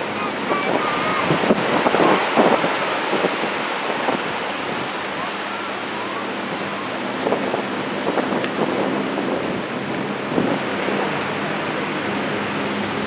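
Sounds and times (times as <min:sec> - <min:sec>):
surf washing up sandy beach: 0:00.0 - 0:13.0
wind on microphone: 0:00.0 - 0:13.0.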